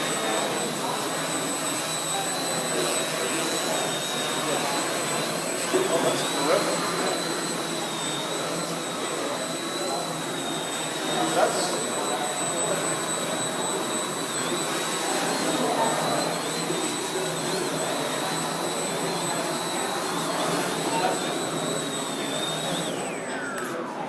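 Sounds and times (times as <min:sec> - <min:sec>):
drone motors high whine: 0:00.0 - 0:24.0.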